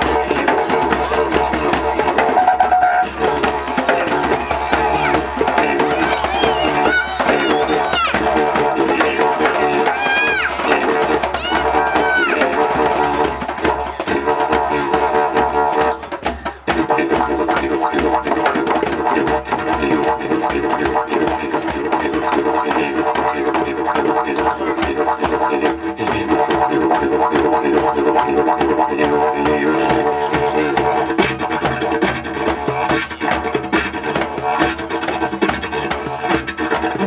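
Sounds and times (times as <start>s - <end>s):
didgeridoo drone: 0.0s - 37.0s
hand drums tapping: 0.0s - 37.0s.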